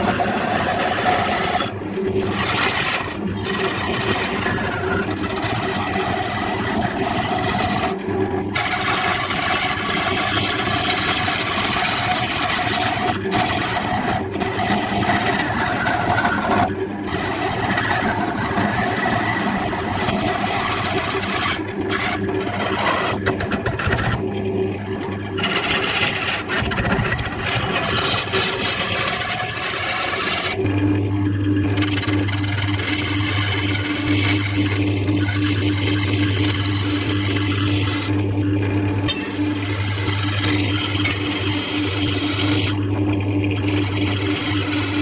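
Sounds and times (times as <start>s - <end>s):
gouge cutting spinning wood: 0.0s - 45.0s
lathe hum: 0.0s - 45.0s.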